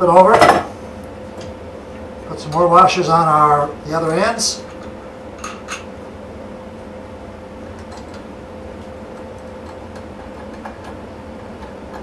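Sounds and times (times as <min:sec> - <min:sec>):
low hum with faint tone: 0:00.0 - 0:12.0.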